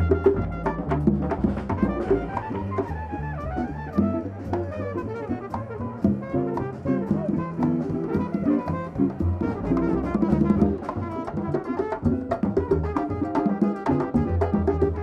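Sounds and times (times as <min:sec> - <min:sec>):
saxophone melody: 0:00.0 - 0:15.0
walking double bass: 0:00.0 - 0:15.0.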